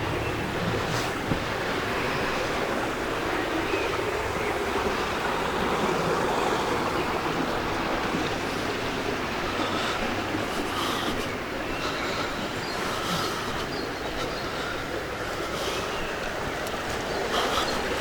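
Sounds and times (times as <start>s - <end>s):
water rushing over water wheel: 0.0s - 18.0s.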